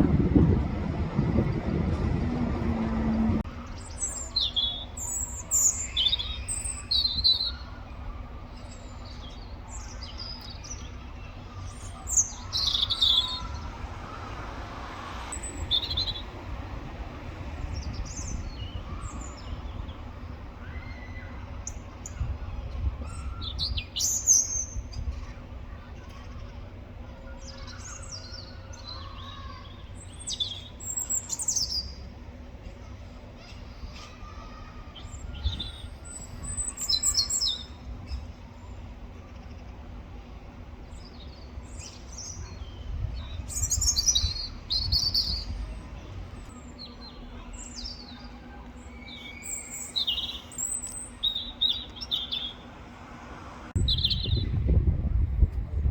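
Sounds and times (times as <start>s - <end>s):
robin singing: 0.0s - 52.8s, 53.8s - 54.6s
low background rumble: 0.0s - 55.9s.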